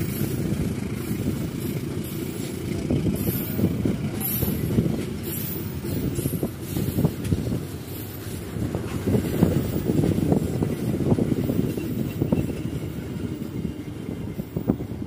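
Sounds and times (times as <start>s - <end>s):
rail joint clicks and knocks: 0.0s - 15.0s
train wheels rumbling on track: 0.0s - 15.0s.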